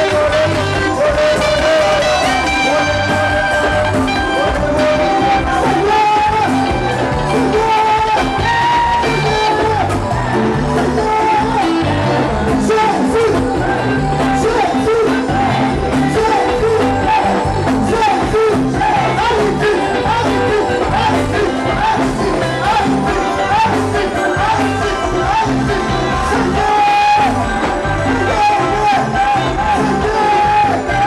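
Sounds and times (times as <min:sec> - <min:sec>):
gospel band playing: 0:00.0 - 0:31.0
lead vocal singing: 0:00.0 - 0:31.0.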